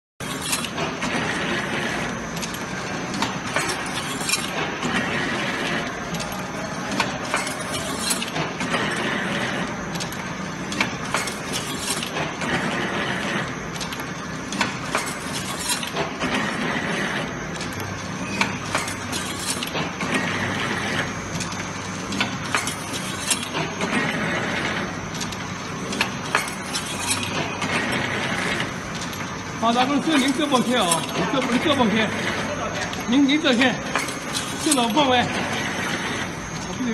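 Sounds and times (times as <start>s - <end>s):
machine clattering: 0.2s - 36.9s.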